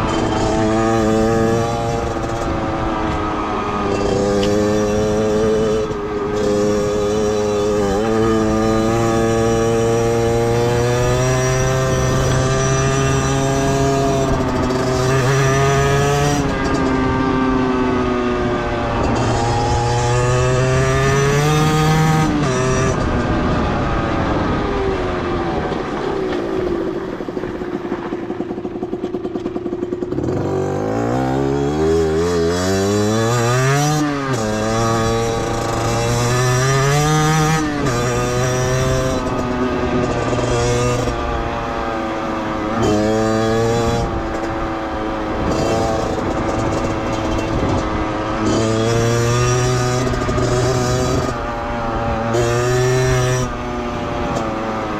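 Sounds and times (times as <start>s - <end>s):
two-stroke motorcycle engine revving: 0.0s - 54.9s.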